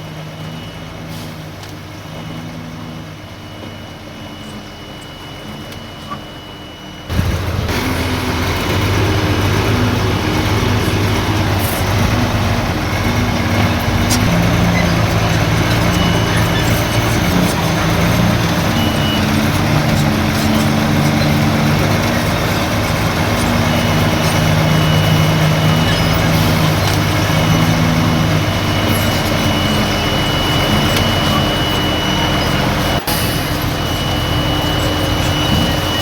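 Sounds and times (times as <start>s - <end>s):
heavy diesel engine running: 0.0s - 36.0s
thin high whine: 4.4s - 36.0s.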